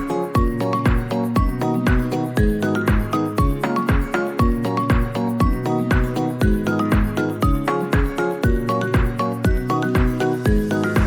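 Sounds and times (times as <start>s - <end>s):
music with steady kick drum: 0.0s - 11.0s.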